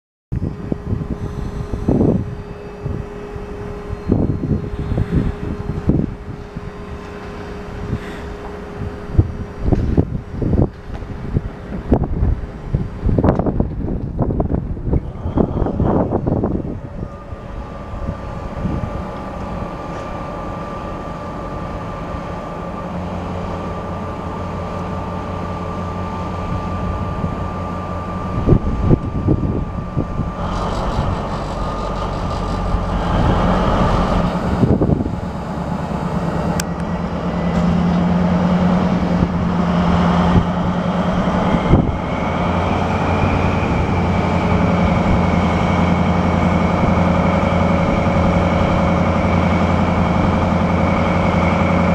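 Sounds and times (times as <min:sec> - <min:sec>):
diesel locomotive engine whining: 0:00.3 - 0:51.9.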